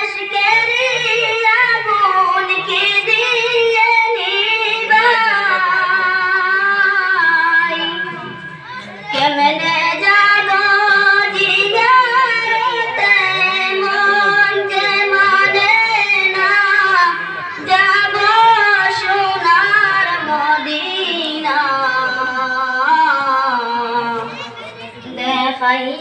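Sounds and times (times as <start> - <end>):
man singing into a microphone: 0.0 - 8.4, 9.1 - 26.0.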